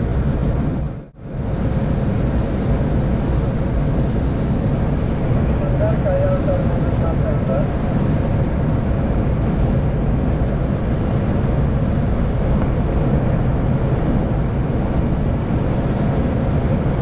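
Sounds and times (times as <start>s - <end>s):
low rumble: 0.0s - 17.0s
rushing airflow in cockpit: 0.0s - 17.0s.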